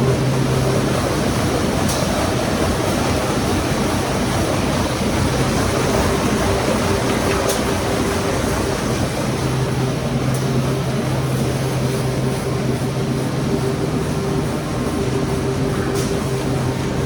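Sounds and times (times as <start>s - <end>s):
industrial machine line running: 0.0s - 17.0s.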